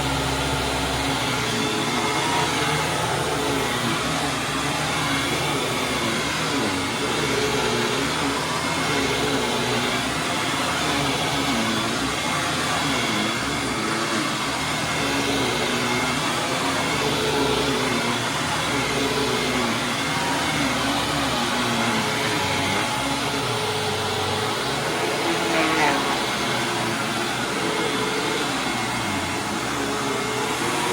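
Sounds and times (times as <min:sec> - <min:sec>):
vacuum cleaner on carpet: 0:00.0 - 0:30.9.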